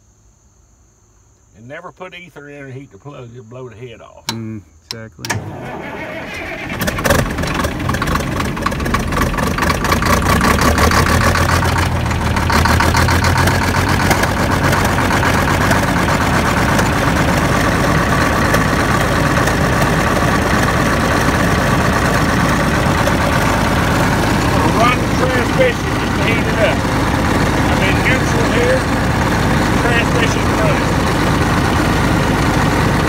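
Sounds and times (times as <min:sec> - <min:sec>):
diesel engine idling: 0:05.4 - 0:33.0.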